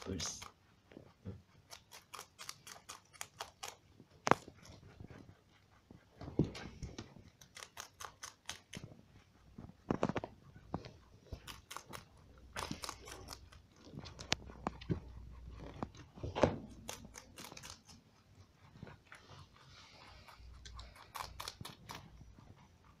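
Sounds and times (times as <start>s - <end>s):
rabbit chewing crisp leaf: 0.0s - 23.0s.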